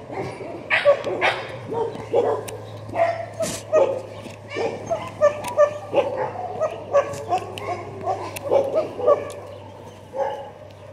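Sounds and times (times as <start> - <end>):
dogs barking: 0.0 - 10.9.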